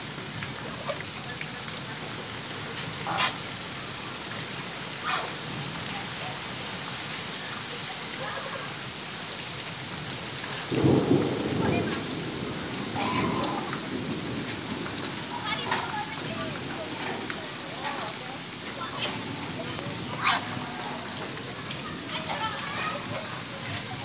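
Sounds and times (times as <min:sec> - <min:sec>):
rain falling on puddle: 0:00.0 - 0:24.0.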